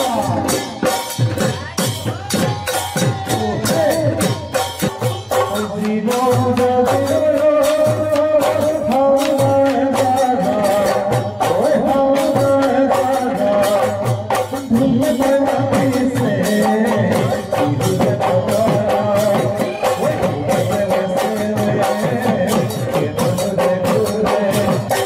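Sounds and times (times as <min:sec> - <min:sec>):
man singing into a microphone: 0:00.0 - 0:01.4, 0:02.1 - 0:25.0
fast drum beat: 0:00.0 - 0:25.0.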